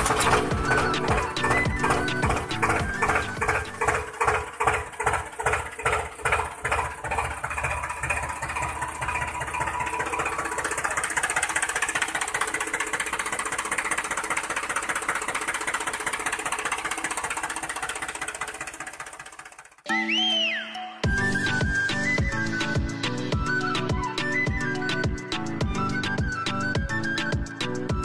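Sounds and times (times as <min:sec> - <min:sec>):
small engine running: 0:00.0 - 0:19.8, 0:21.1 - 0:28.0.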